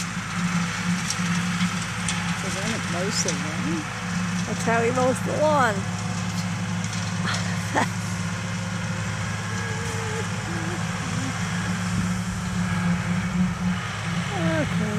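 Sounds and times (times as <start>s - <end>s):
engine humming steadily: 0.0s - 14.9s.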